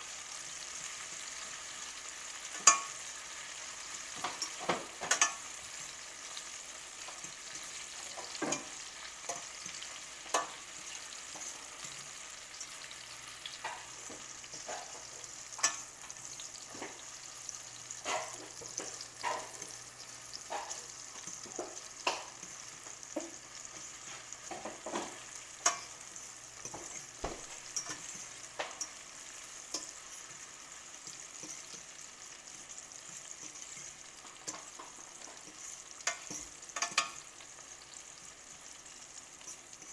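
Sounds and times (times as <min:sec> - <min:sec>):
vegetables sizzling in oil: 0:00.0 - 0:39.9
fork scraping and tapping pan: 0:02.5 - 0:03.1, 0:03.8 - 0:12.8, 0:13.4 - 0:17.1, 0:17.9 - 0:37.9, 0:39.4 - 0:39.9.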